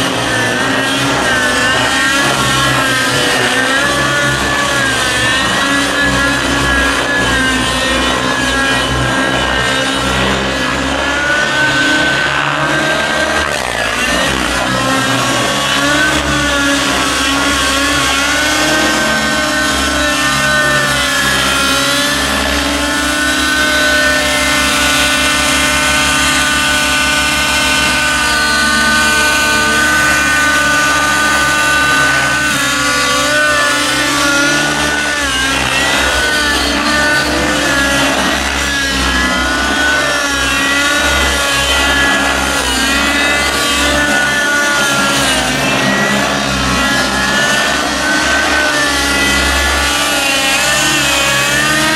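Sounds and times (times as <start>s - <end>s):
model helicopter engines whining: 0.0s - 51.9s.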